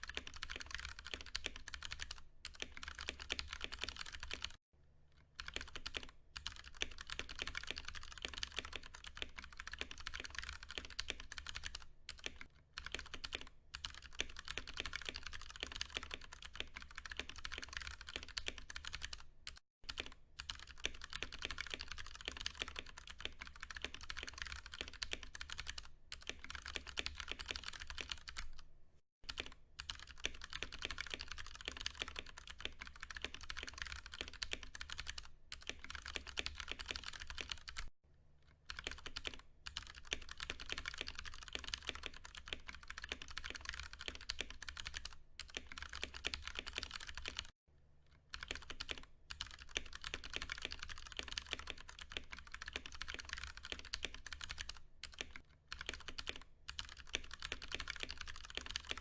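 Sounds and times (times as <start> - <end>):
mechanical keyboard typing: 0.0 - 4.6, 5.4 - 28.6, 29.3 - 37.9, 38.7 - 47.5, 48.3 - 59.0.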